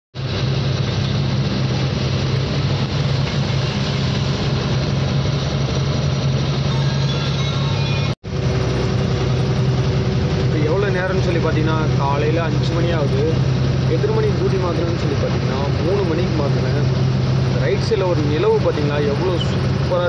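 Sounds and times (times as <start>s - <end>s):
road and tyre noise: 0.1s - 20.0s
diesel engine droning: 0.2s - 20.0s.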